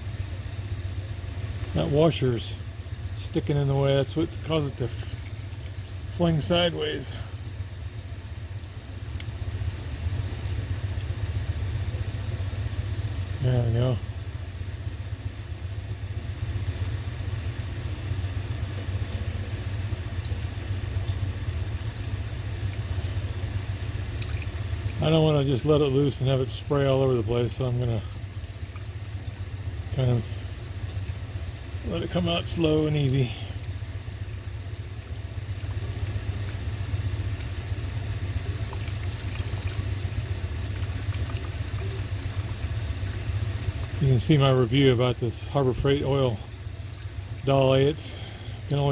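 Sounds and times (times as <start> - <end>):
cooler fans roaring: 0.0 - 48.9
oil pouring into container: 1.5 - 48.9.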